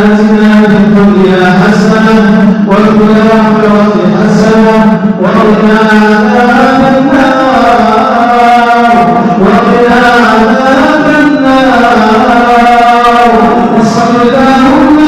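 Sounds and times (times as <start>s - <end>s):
person chanting a supplication: 0.0s - 15.0s.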